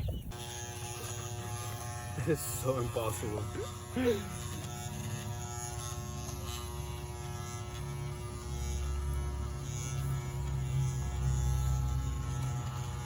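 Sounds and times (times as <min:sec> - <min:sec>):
electric hair clippers buzzing: 0:00.1 - 0:13.0.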